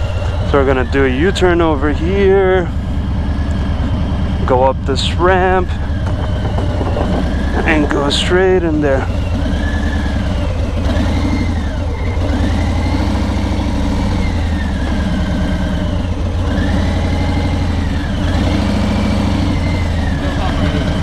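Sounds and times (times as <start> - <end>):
motorcycle engine idling: 0.0 - 18.3.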